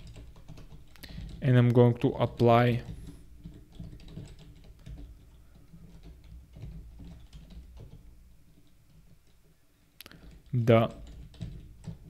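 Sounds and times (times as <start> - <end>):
typing on keyboard: 0.0 - 1.7, 2.8 - 9.4, 10.0 - 12.0.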